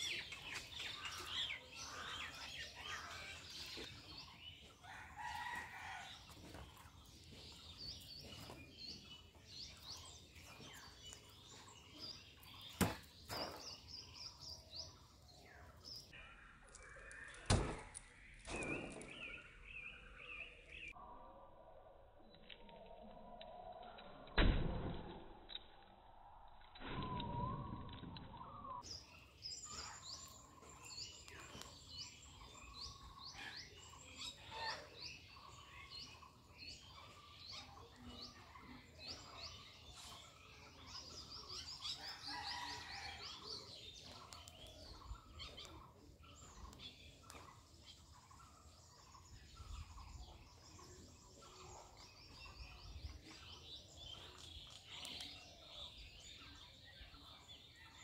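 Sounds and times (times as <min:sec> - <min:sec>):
small birds chirping: 0:00.0 - 0:24.3, 0:25.5 - 0:58.0.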